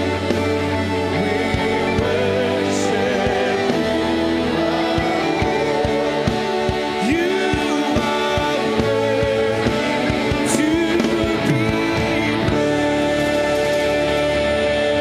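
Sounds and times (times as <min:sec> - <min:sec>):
band playing worship music: 0:00.0 - 0:15.0
person singing: 0:00.0 - 0:15.0.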